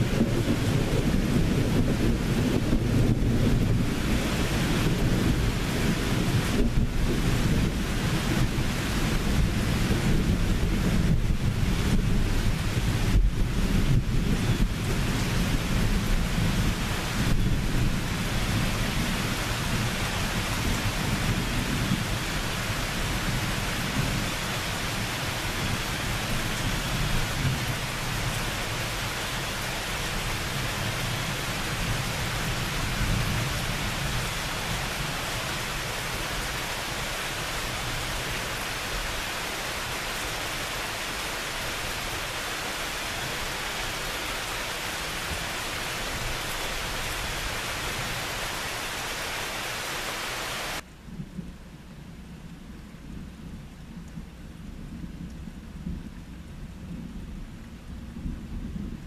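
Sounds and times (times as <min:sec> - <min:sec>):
distant thunder rumble: 0:00.0 - 0:49.3, 0:50.6 - 0:59.0
steady rain falling: 0:00.0 - 0:59.0.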